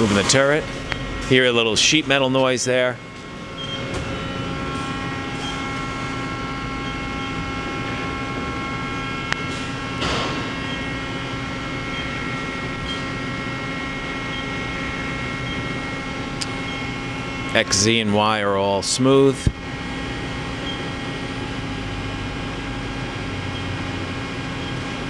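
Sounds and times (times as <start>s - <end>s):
machine hum with whining tones: 0.0s - 25.0s.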